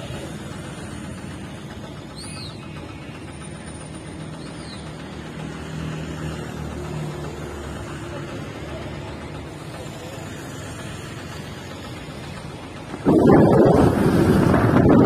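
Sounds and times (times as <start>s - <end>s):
vehicle engines droning: 0.0s - 15.0s.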